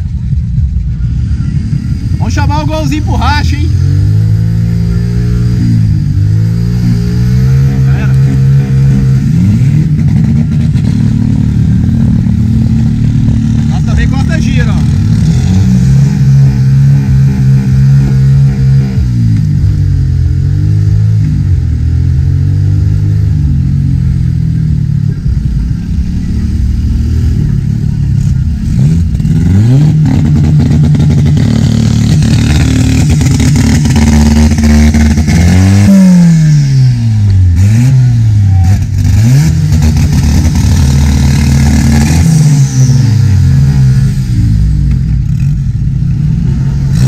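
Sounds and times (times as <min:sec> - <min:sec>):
buggy engine revving: 0:00.0 - 0:47.0.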